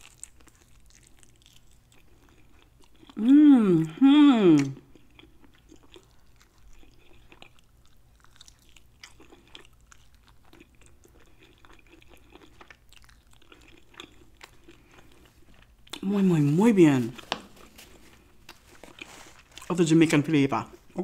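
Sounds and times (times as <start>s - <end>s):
person gnawing and chewing meat: 0.0s - 3.2s, 4.6s - 16.5s, 17.2s - 19.8s.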